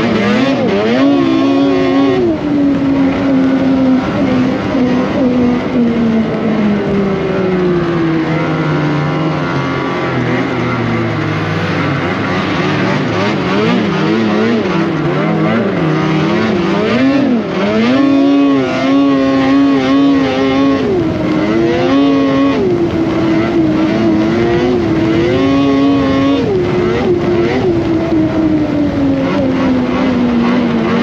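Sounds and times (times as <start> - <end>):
snowmobile engine revving: 0.0 - 31.0.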